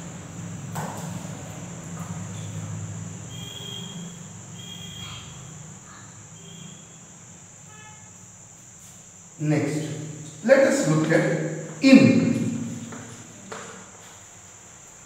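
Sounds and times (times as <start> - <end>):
high-pitched whine: 0.0 - 13.6.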